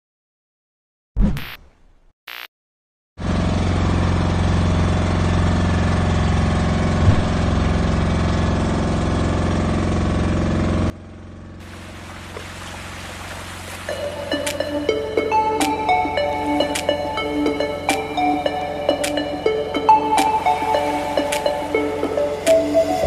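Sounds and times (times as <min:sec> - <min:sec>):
boat engine droning: 0:03.3 - 0:23.0.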